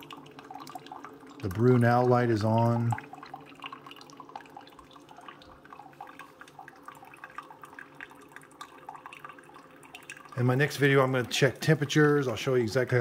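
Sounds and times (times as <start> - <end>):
water trickling into glass mug: 0.0 - 13.0.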